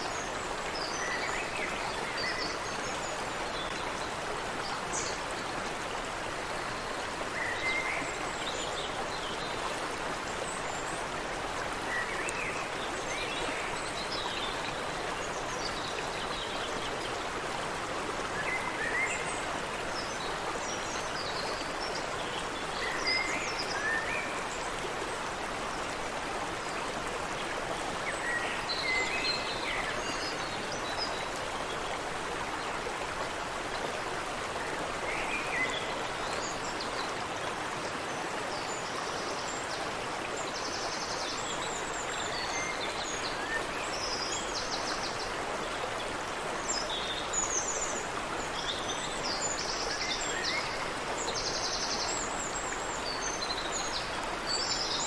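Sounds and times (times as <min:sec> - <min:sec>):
water rushing in a creek: 0:00.0 - 0:55.0.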